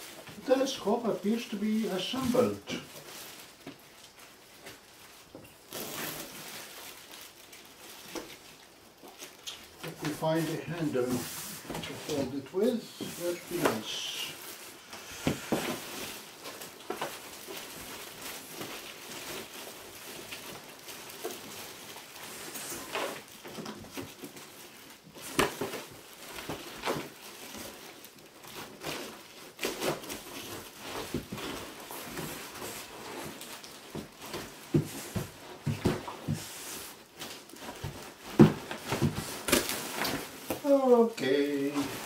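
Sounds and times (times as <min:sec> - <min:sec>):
cardboard rustling and scraping: 0:00.0 - 0:42.0.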